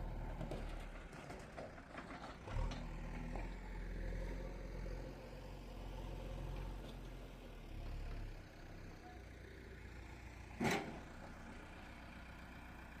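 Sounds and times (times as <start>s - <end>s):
faint low engine rumble: 0.0s - 13.0s.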